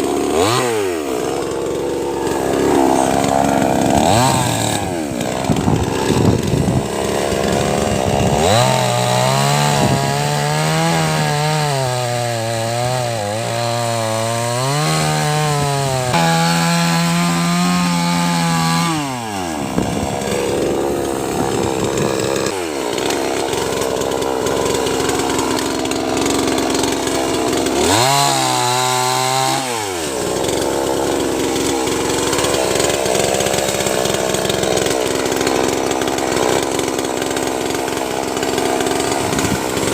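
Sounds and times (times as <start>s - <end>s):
two-stroke chainsaw revving: 0.0s - 39.9s.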